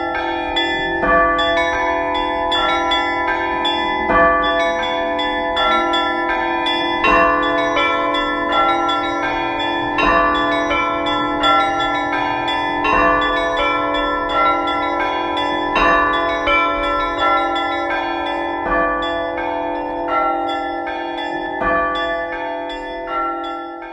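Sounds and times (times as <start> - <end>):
small church bells chiming rapidly: 0.0 - 23.9.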